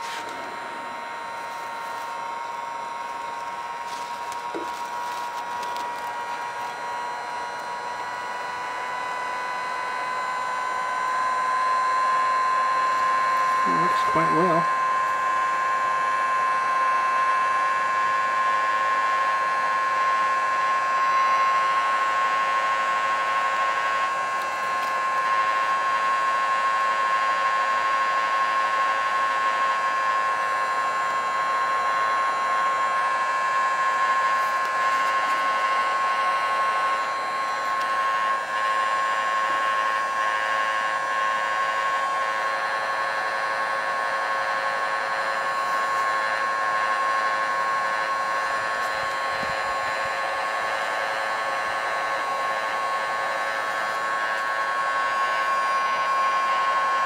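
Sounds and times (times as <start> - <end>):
fan motor whine: 0.0 - 57.0
heat gun air rush: 0.0 - 57.0.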